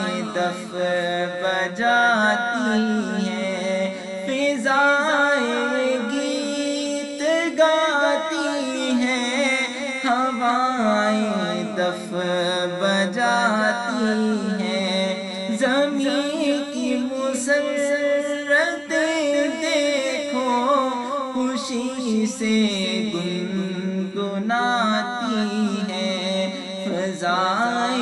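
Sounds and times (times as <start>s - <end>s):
unaccompanied vocal chanting: 0.0s - 28.0s.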